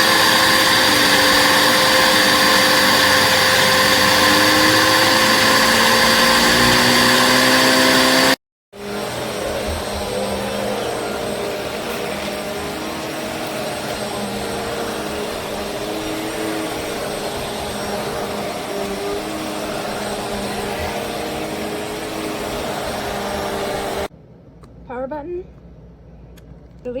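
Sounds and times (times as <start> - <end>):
vacuum cleaner running: 0.0 - 24.1.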